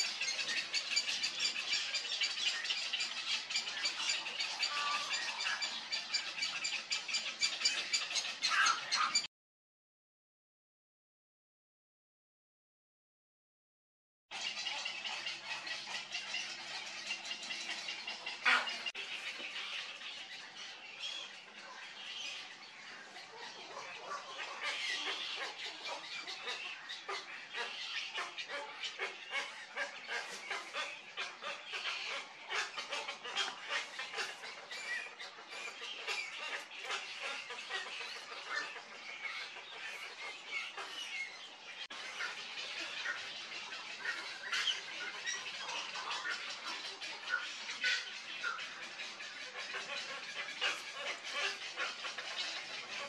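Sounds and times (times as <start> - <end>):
birds squawking and chattering: 0.0 - 9.3, 14.3 - 53.0.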